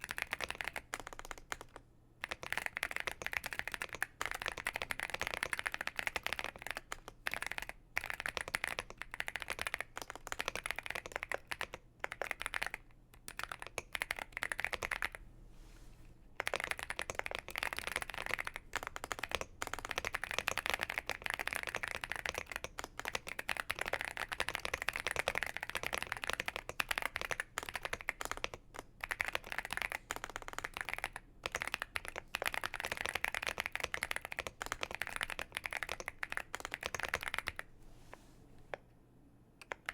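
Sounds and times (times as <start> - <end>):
mechanical keyboard typing: 0.0 - 15.2, 16.4 - 37.7, 39.6 - 39.9.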